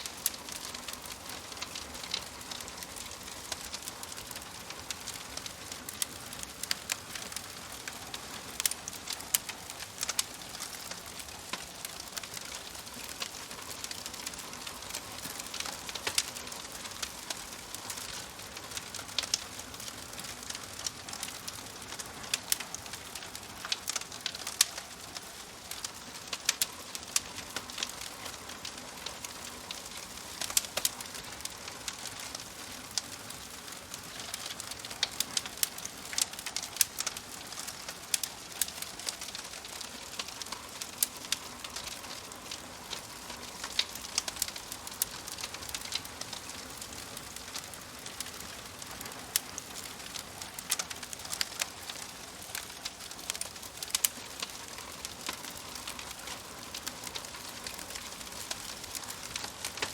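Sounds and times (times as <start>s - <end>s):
fire hissing: 0.0s - 59.9s
fire popping and snapping: 0.0s - 59.9s.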